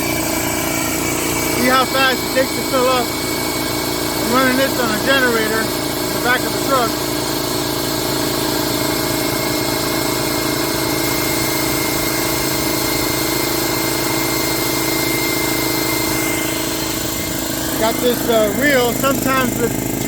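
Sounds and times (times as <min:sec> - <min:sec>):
air compressor running: 0:00.0 - 0:20.0.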